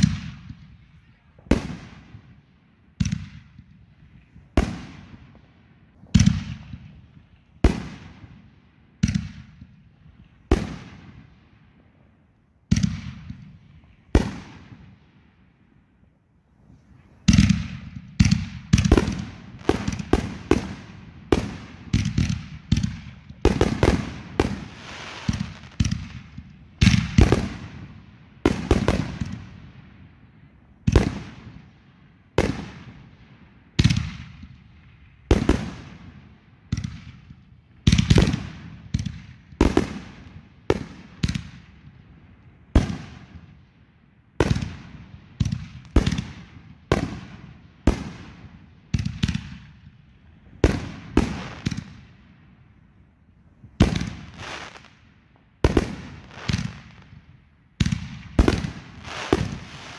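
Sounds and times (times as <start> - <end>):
fireworks bangs echoing: 0.0 - 11.6, 12.7 - 15.3, 17.0 - 30.1, 30.8 - 31.7, 32.3 - 33.1, 33.7 - 43.7, 44.4 - 52.3, 53.7 - 55.0, 55.6 - 59.9.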